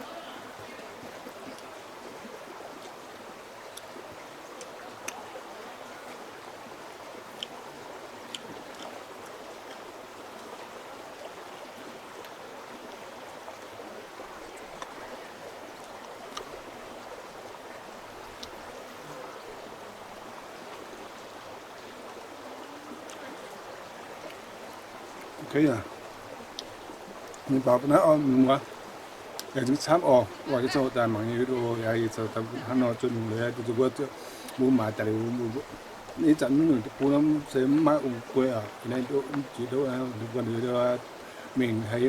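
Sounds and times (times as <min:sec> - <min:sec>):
stream water flowing: 0:00.0 - 0:42.0.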